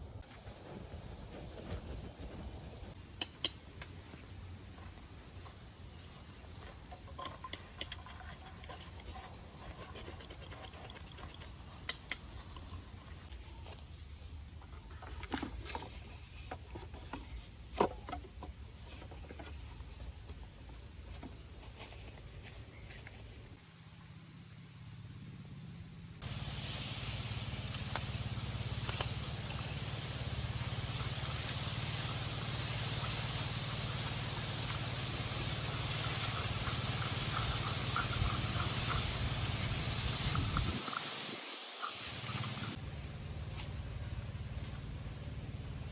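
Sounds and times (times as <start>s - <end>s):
insect chorus: 0.0s - 45.9s.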